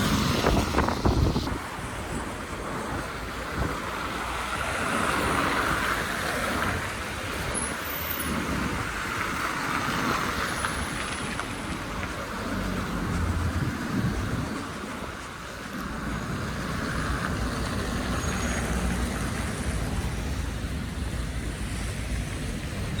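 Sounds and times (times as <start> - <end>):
heavy vehicle engine rumble: 0.0 - 23.0
vehicles passing with tyre noise: 0.0 - 23.0.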